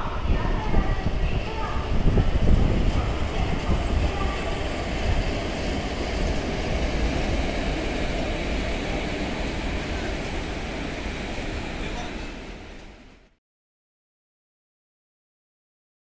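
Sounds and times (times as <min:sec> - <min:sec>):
locomotive wheels rumbling on rails: 0:00.0 - 0:13.3.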